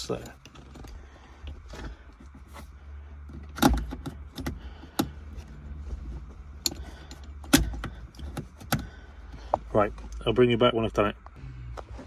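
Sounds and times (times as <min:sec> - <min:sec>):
metallic clicks of shifter cable: 0:00.0 - 0:10.3.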